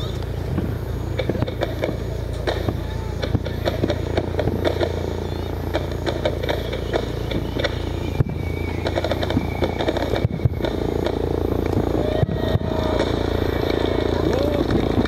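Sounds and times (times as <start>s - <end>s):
distant fireworks bursting: 0.0s - 15.0s.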